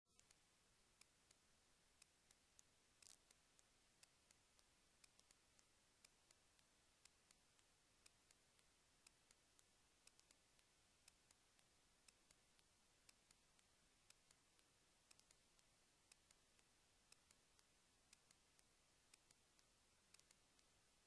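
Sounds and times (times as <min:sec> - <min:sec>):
faint sharp ticks: 0:00.1 - 0:21.0.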